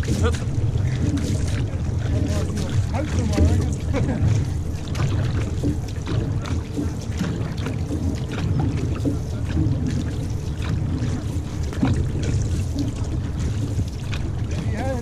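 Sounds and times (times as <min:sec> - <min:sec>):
paddle splashes and drips: 0:00.0 - 0:15.0
steady low rumble: 0:00.0 - 0:15.0
water washing along a hull: 0:00.0 - 0:15.0.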